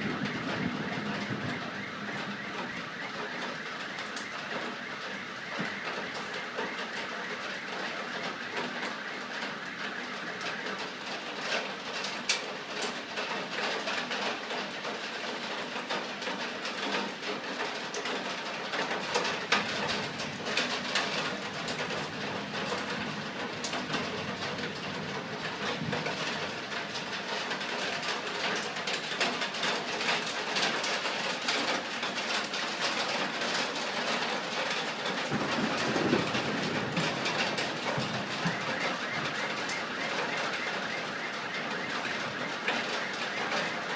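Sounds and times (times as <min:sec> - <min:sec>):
heavy rain pouring: 0:00.0 - 0:43.9
raindrops hitting hard surfaces: 0:00.0 - 0:43.9.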